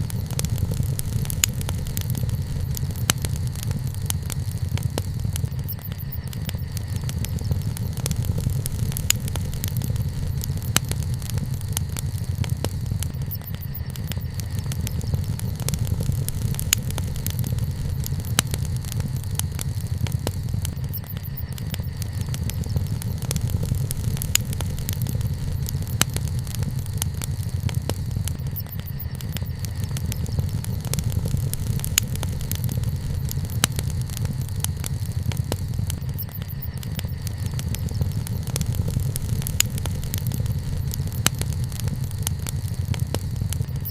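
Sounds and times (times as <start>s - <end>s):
campfire crackling and popping: 0.0s - 43.9s
campfire rumble: 0.0s - 43.9s.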